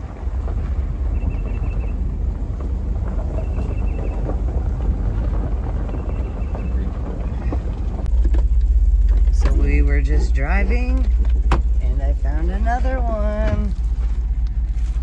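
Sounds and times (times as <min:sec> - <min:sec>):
car engine and road rumble: 0:00.0 - 0:15.0
wind noise on microphone: 0:00.0 - 0:15.0.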